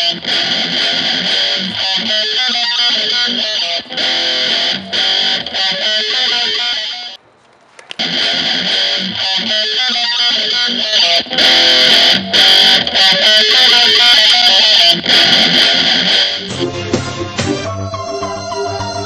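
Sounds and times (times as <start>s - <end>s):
rock music with electric guitar: 0.0s - 7.2s, 8.0s - 19.0s.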